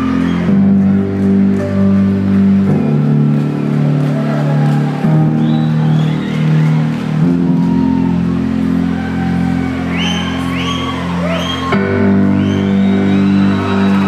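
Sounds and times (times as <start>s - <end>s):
synthesizer chords: 0.0s - 14.0s.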